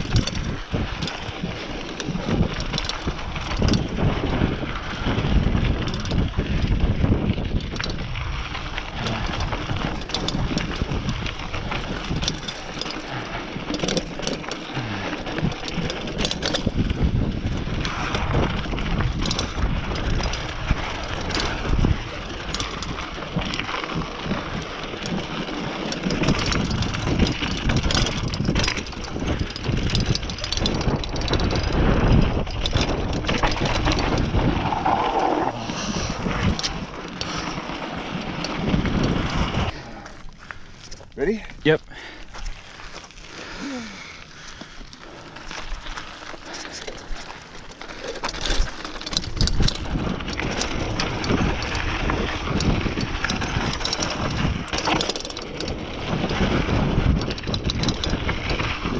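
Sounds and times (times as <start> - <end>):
bike rattling over bumps: 0.0 - 58.9
bike tyres skidding over dirt: 0.0 - 58.9
wind rumbling on microphone: 0.0 - 58.9.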